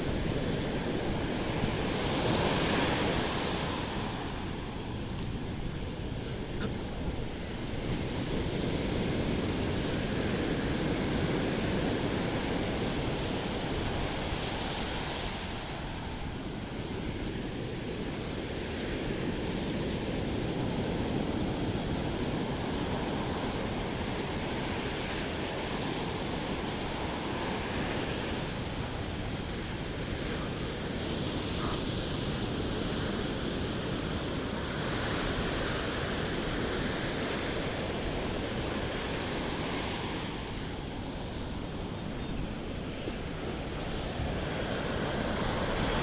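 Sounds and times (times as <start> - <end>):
waves washing onto beach: 0.0 - 46.0
wind on microphone: 0.0 - 46.0.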